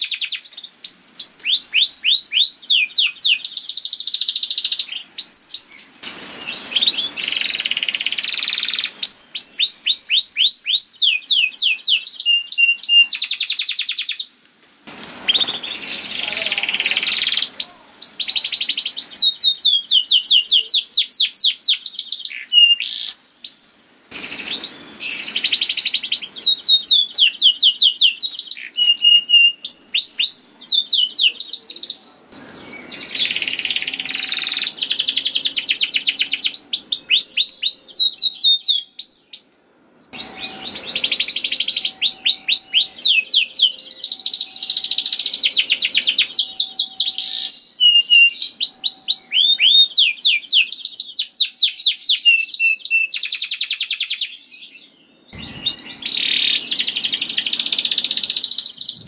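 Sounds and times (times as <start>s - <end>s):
canary singing trills: 0.0s - 14.4s, 15.2s - 59.0s.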